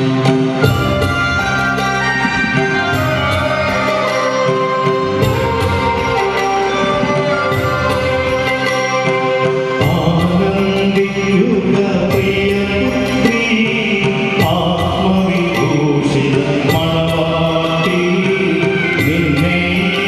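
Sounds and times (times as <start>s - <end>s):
instrumental accompaniment: 0.0s - 20.0s.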